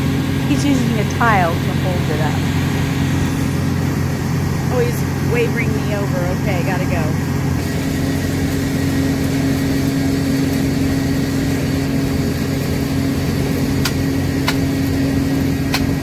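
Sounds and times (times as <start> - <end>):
tractor driven feed grinder drone: 0.0 - 16.0.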